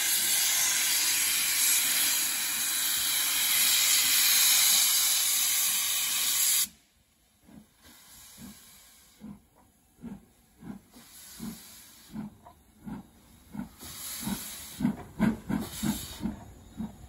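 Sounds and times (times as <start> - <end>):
steam hissing from locomotive: 0.0 - 17.0
steam locomotive exhaust chuffs: 0.0 - 17.0.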